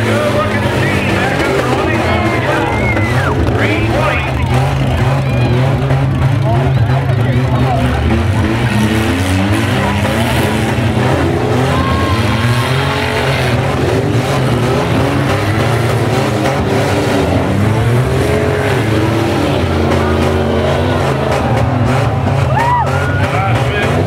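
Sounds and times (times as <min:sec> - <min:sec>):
racing engines revving: 0:00.0 - 0:24.0.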